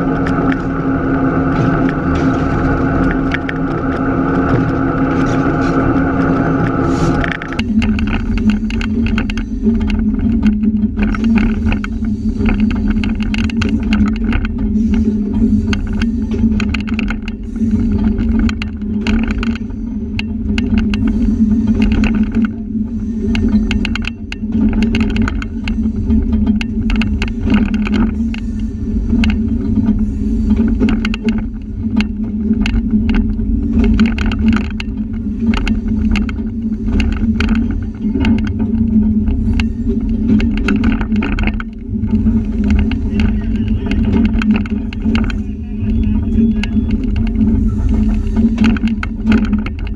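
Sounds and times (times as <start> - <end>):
diesel locomotive drone: 0.0 - 49.9
train cars rattling and clicking: 0.0 - 49.9.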